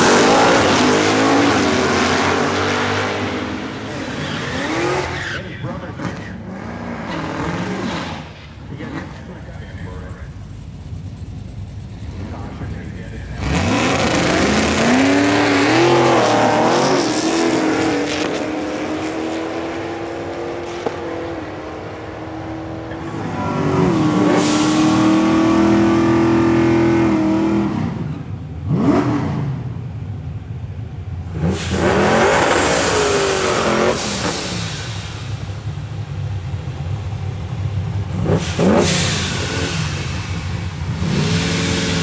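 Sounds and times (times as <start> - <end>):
cars sweeping past: 0.0 - 29.7, 31.2 - 42.0
drag racing car engine: 0.0 - 42.0.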